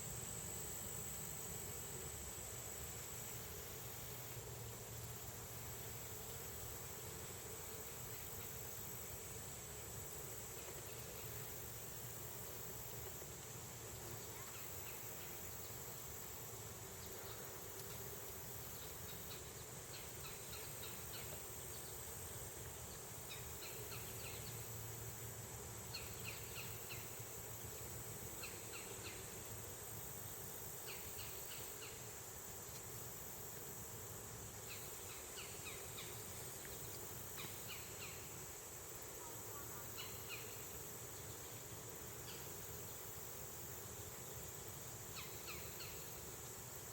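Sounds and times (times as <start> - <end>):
insect chirps: 0.0 - 46.9.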